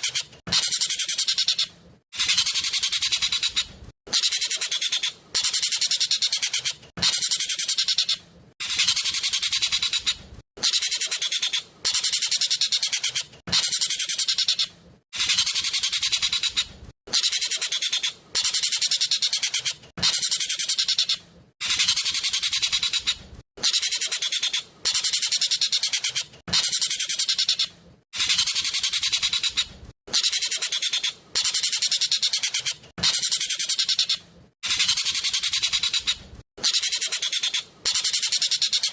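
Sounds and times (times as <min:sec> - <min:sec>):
bird song rapid repeated notes: 0:00.0 - 0:38.9.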